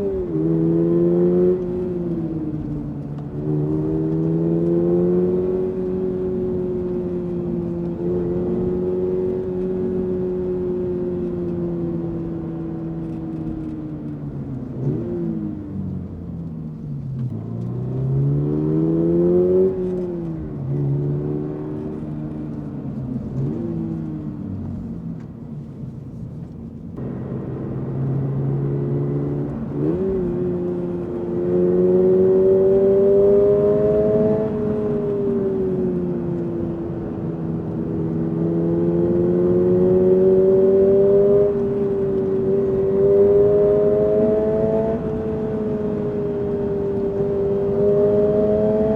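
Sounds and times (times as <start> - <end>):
car engine at high revs: 0.0 - 48.9.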